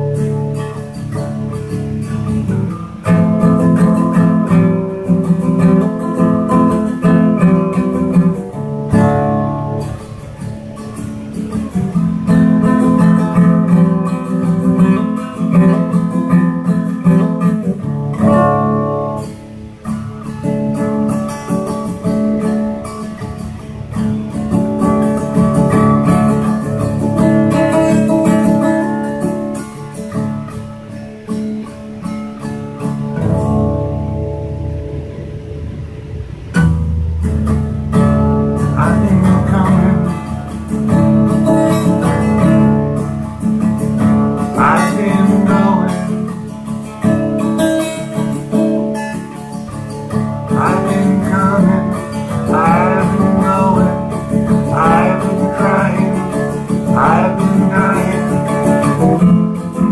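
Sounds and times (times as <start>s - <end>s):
acoustic guitar strumming chords: 0.0s - 59.9s.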